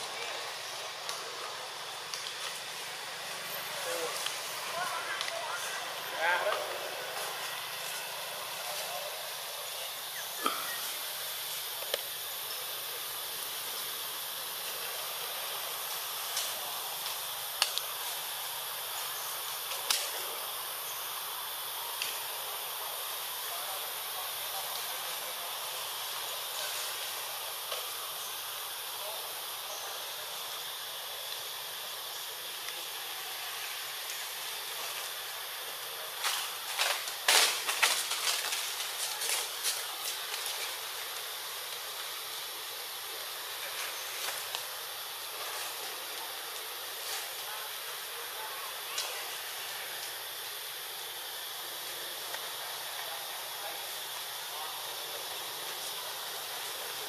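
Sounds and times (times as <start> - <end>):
forest background hiss: 0.0 - 57.0
rustles: 0.0 - 57.0.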